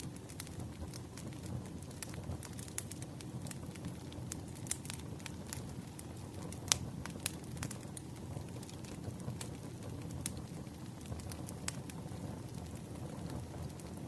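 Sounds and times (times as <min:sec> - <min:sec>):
fire popping and snapping: 0:00.0 - 0:14.0
wood fire rumbling: 0:00.0 - 0:14.0.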